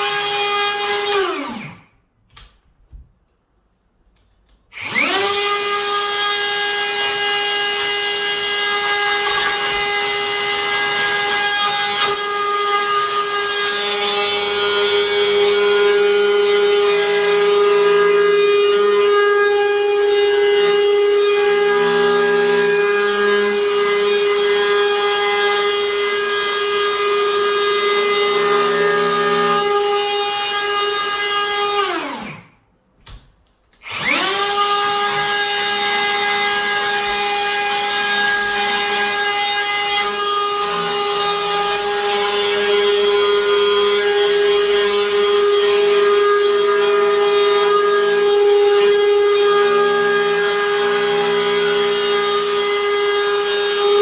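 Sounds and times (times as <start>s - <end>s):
router cutting wood: 0.0s - 2.5s, 4.7s - 32.5s, 33.8s - 54.0s.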